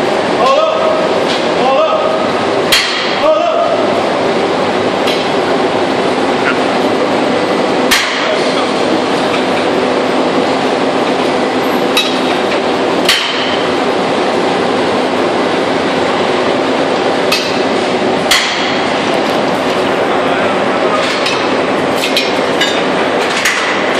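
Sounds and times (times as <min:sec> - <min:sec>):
workshop machinery running: 0:00.0 - 0:23.9.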